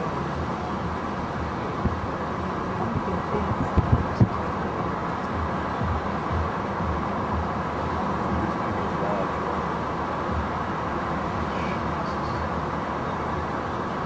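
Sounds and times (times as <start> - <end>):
vehicle engine: 0.0 - 14.0.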